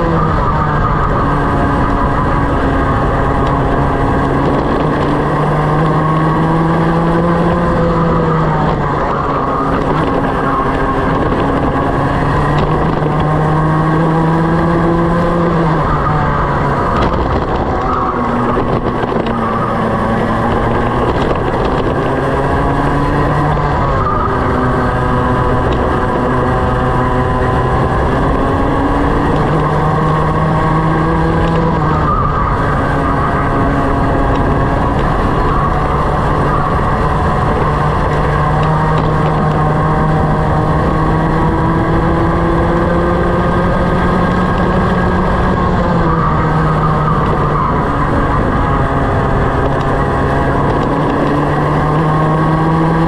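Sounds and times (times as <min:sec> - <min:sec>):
racing kart engine revving: 0:00.0 - 0:53.0.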